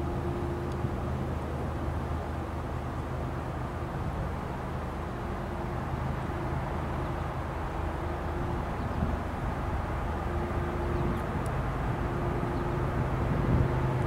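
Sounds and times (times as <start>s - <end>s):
distant diesel locomotive drone: 0.0s - 14.0s.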